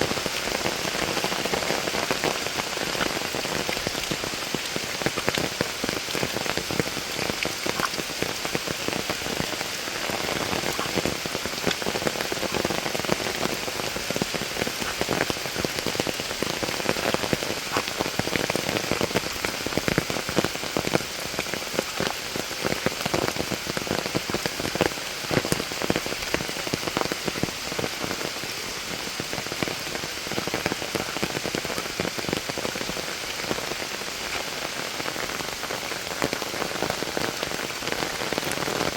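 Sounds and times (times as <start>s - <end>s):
heavy rain falling: 0.0s - 38.9s
raindrops ticking close by: 0.0s - 38.9s.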